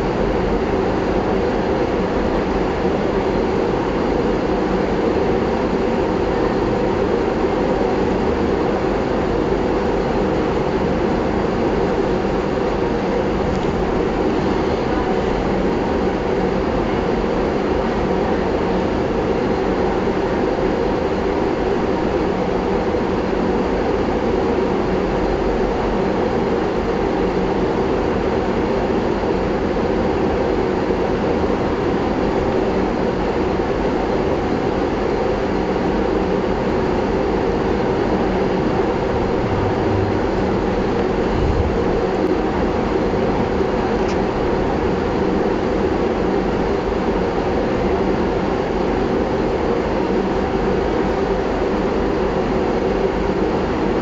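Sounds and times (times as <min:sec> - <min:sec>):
loud droning hum: 0:00.0 - 0:54.0.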